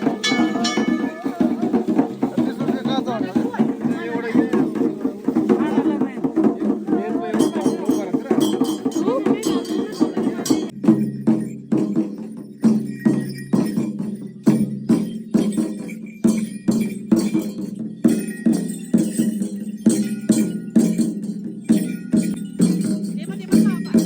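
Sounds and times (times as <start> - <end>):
light jingle: 0.0 - 24.0
percussion steady beat: 0.0 - 24.0.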